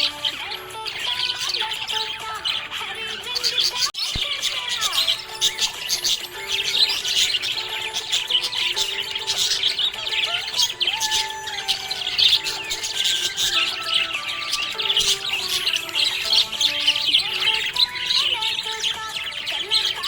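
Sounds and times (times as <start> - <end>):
background music of held notes: 0.0 - 20.0
budgerigar chirping and warbling: 0.0 - 20.0.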